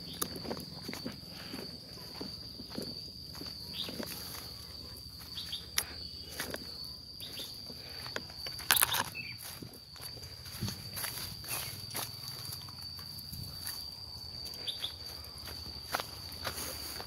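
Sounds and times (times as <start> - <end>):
footsteps: 0.0 - 6.7, 7.3 - 12.7, 14.4 - 17.0
high-pitched insect drone: 0.0 - 17.0.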